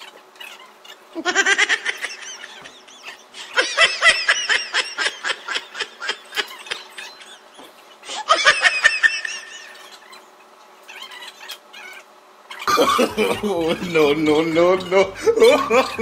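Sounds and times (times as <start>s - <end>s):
high-pitched giggling: 0.0s - 16.0s.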